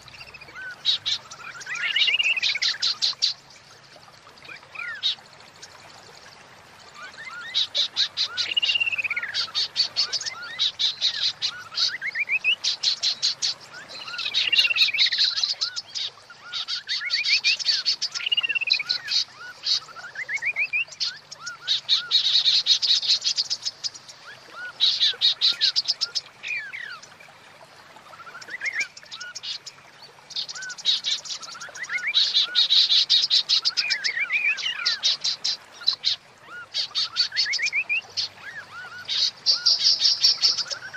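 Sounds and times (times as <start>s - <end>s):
bird calling with ticks and whistles: 0.0s - 3.6s, 6.9s - 27.2s, 28.0s - 40.9s.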